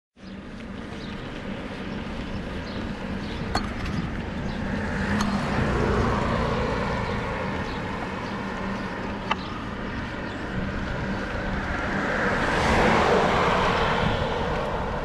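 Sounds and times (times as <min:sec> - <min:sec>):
motor vehicle passing: 0:00.2 - 0:15.0.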